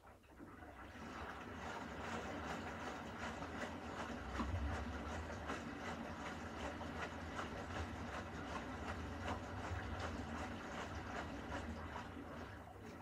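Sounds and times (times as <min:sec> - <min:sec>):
washing machine motor hum: 0:00.0 - 0:13.0
water and laundry sloshing: 0:00.0 - 0:13.0.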